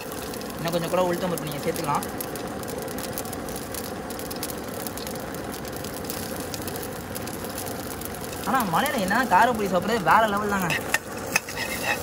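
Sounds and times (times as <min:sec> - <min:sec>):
hot oil sizzling and popping: 0:00.0 - 0:12.0.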